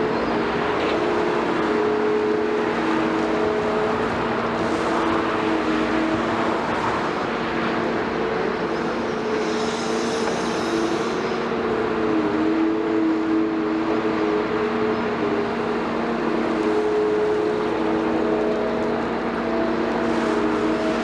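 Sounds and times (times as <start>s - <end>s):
excavator diesel engine: 0.0s - 21.0s.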